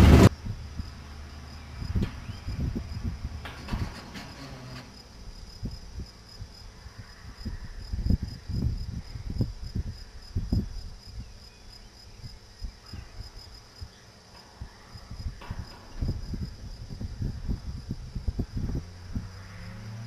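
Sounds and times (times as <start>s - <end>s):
wind rumble on microphone: 0.0s - 1.0s, 1.6s - 20.0s
insects chirping: 0.0s - 20.0s.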